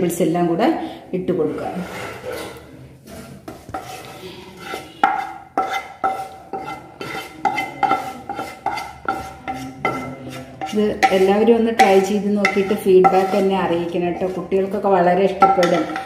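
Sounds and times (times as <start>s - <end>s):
spatula scraping a frying pan: 1.4s - 16.0s.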